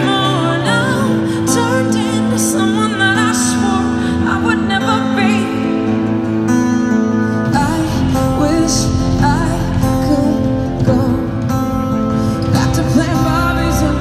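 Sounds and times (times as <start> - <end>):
woman singing with vibrato: 0.0 - 6.3, 7.2 - 14.0
electric guitar: 0.0 - 14.0.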